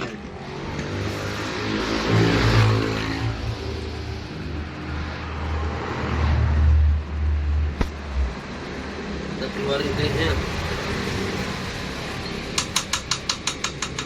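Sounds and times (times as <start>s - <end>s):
vehicle engine running and revving: 0.0s - 13.3s.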